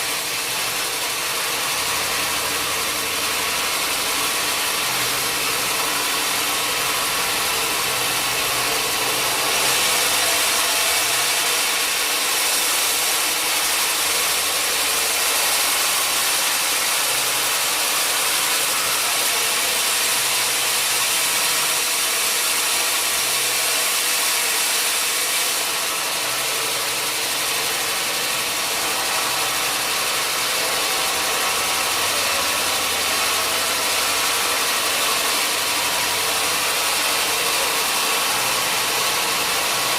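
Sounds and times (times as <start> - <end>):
sawmill machinery whirring: 0.0 - 39.9.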